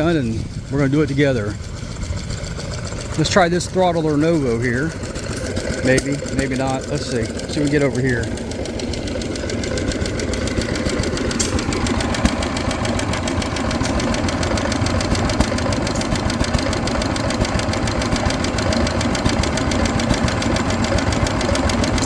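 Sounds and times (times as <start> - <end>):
stationary gas engine running: 0.0 - 22.0.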